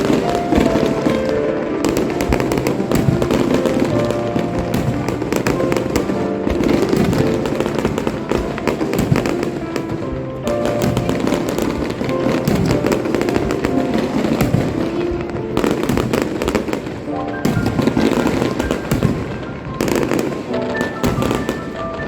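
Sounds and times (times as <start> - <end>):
fireworks bangs and crackling: 0.0 - 22.0
music playing: 0.0 - 22.0.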